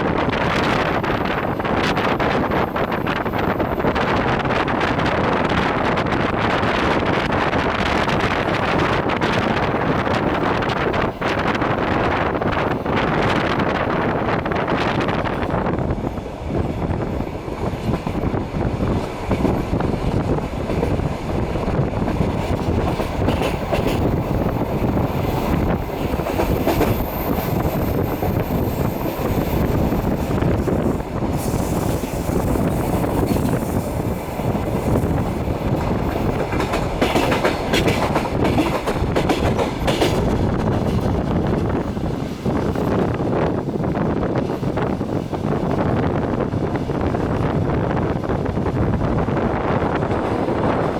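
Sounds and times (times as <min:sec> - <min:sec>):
train wheels clattering over rails: 0:00.0 - 0:50.9.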